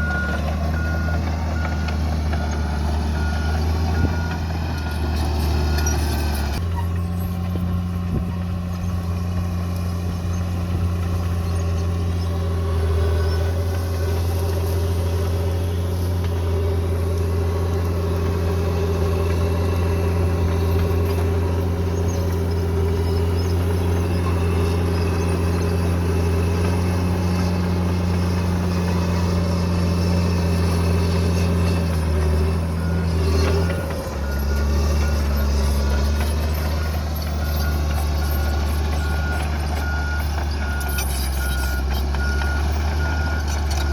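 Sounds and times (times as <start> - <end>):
heavy machine diesel engine running: 0.0 - 43.9.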